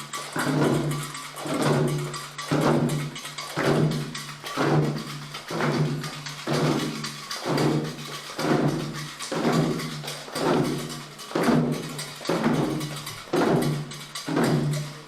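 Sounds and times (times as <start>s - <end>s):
ceremonial percussion strokes: 0.0s - 15.0s.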